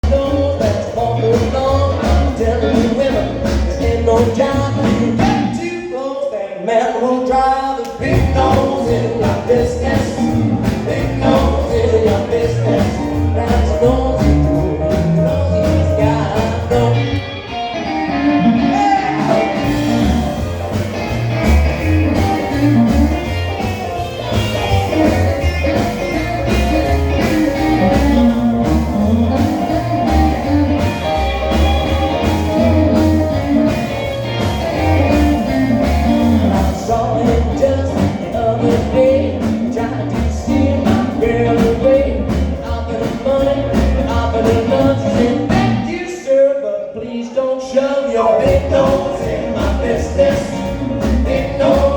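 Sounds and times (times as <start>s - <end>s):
rock and roll band playing: 0.0s - 51.9s.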